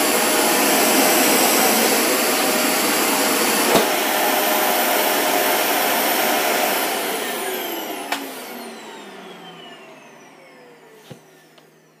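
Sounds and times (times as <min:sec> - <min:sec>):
vacuum cleaner motor winding down: 0:00.0 - 0:12.0.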